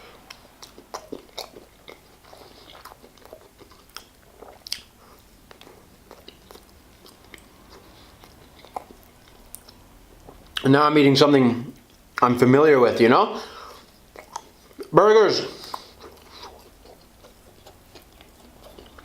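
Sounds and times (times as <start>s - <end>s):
person chewing crunchy food: 0.0s - 10.7s, 13.5s - 19.0s.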